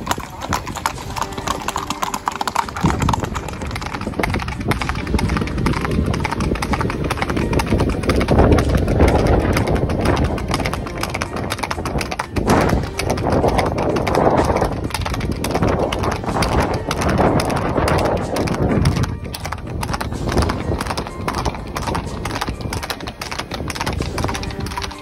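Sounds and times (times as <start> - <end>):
horses hooves clip-clopping on pavement: 0.0 - 25.0.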